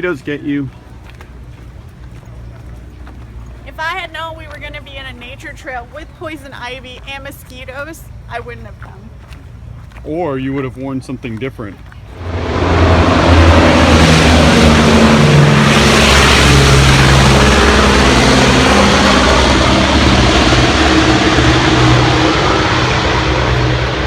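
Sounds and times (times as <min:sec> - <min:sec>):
propeller aircraft engines running: 0:00.0 - 0:24.0.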